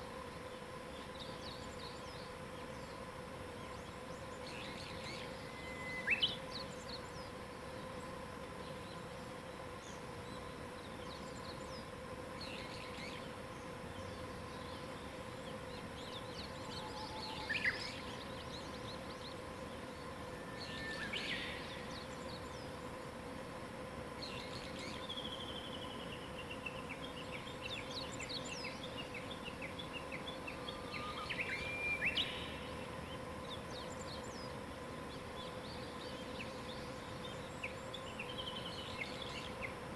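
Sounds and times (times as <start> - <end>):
faint steady hum: 0.0 - 39.9
birds singing: 0.5 - 23.2, 24.2 - 39.9.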